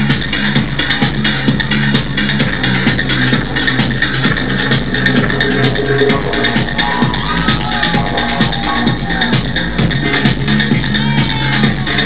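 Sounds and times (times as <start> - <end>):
loud techno music: 0.0 - 12.0.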